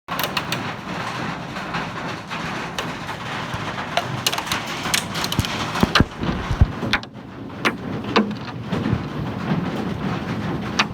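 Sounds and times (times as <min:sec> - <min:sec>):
hailstones clicking on hard surfaces: 0:00.1 - 0:10.9
roar of hail and rain: 0:00.1 - 0:10.9.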